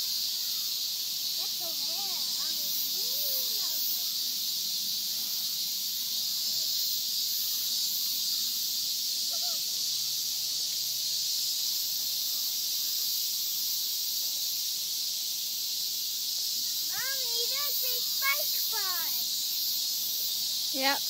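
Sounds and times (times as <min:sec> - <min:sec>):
cicadas buzzing: 0:00.0 - 0:21.0.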